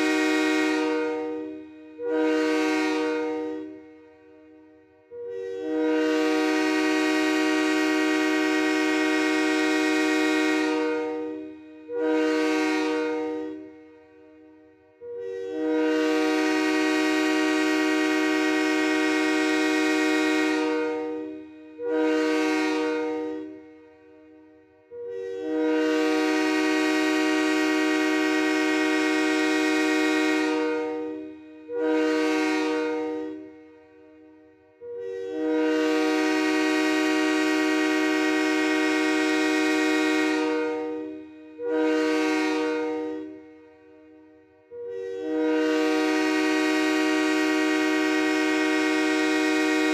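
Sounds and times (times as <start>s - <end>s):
train air horn chord: 0.0s - 49.9s.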